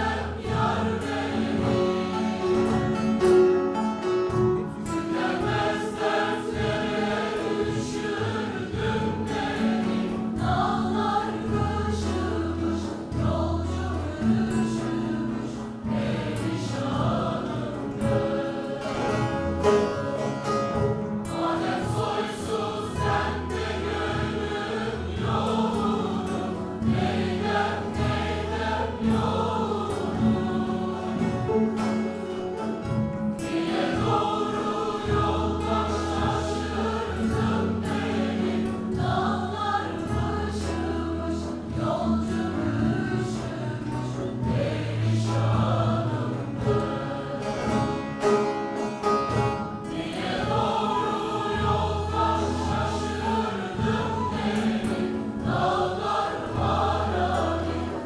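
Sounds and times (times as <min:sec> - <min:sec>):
choir singing folk song: 0:00.0 - 0:58.0.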